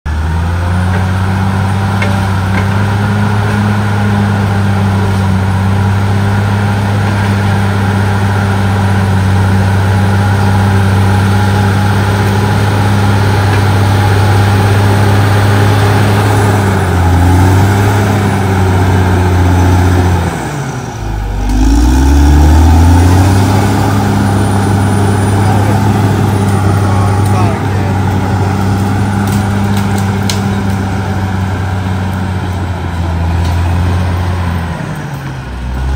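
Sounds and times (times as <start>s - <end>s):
bulldozer diesel engine running: 0.1s - 35.9s.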